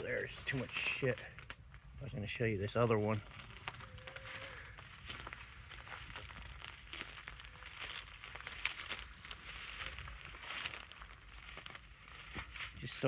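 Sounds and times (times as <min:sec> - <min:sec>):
footsteps crunching through dry brush: 0:00.0 - 0:13.0.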